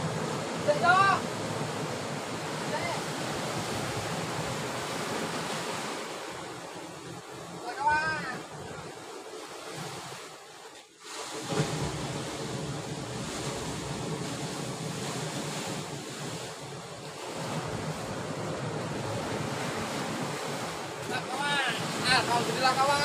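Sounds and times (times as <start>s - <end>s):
waves on a rocky shore: 0.0s - 23.0s.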